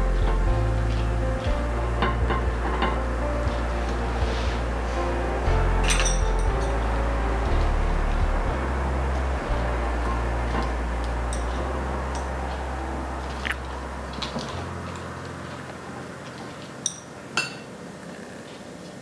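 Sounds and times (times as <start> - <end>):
low steady hum: 0.0 - 18.1.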